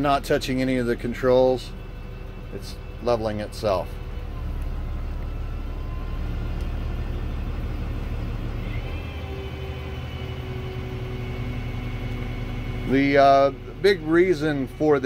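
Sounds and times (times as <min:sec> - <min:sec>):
faint higher whine: 0:00.0 - 0:15.0
truck engine idling: 0:00.0 - 0:15.0.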